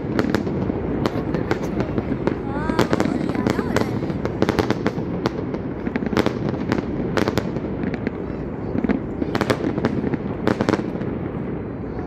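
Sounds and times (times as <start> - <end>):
continuous low rumble: 0.0 - 12.0
fireworks bangs and crackles: 0.0 - 12.0.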